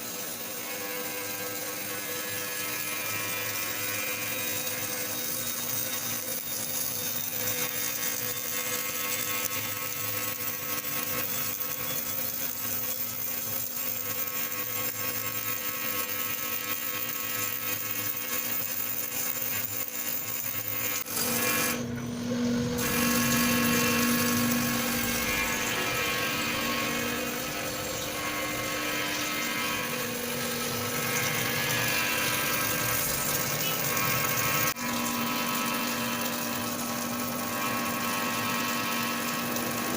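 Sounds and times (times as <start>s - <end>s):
steady machine whine: 0.0s - 39.9s.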